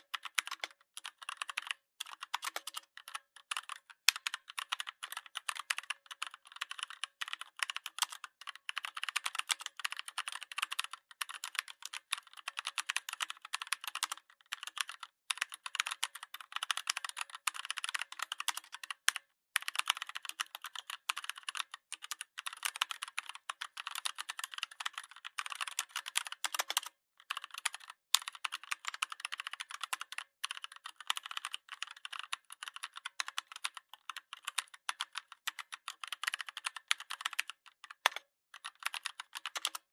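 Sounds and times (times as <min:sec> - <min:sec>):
fast irregular clicking and tapping: 0:00.0 - 0:39.9.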